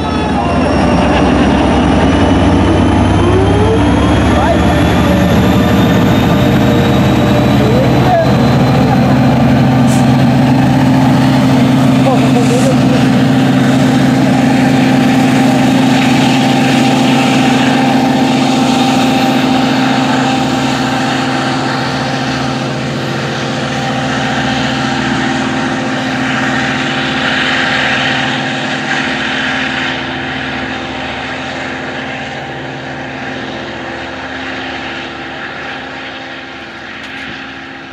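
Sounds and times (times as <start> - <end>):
diesel locomotive engine droning: 0.0 - 37.9.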